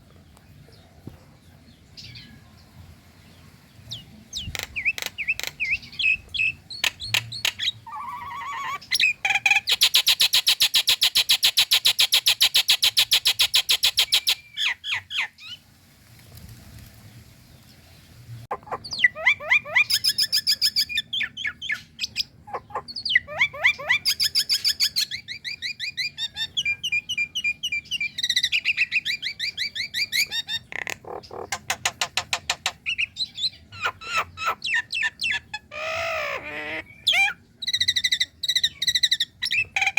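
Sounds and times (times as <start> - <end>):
bird chattering and whistling: 3.9 - 15.6, 18.5 - 39.9.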